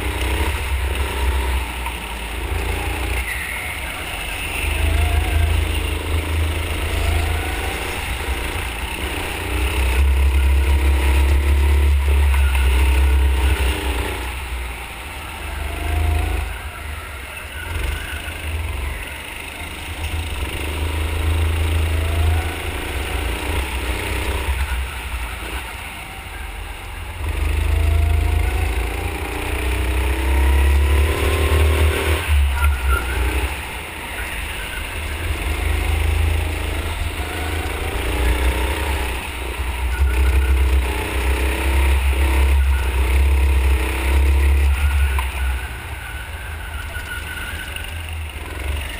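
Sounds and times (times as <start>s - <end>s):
go-kart engine accelerating: 0.0s - 48.9s.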